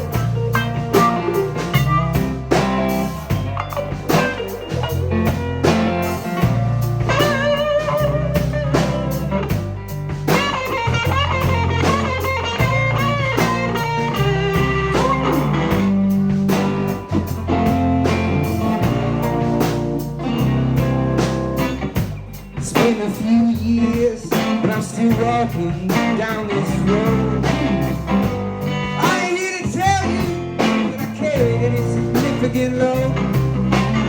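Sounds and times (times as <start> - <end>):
bass guitar: 0.0 - 34.0
drum kit beat: 0.0 - 34.0
lead guitar bent notes: 0.0 - 34.0.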